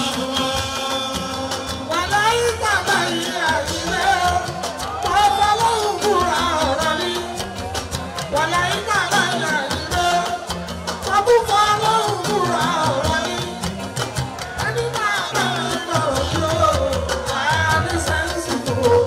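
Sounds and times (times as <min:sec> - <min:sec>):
busy percussion: 0:00.0 - 0:19.0
person singing: 0:00.0 - 0:19.0.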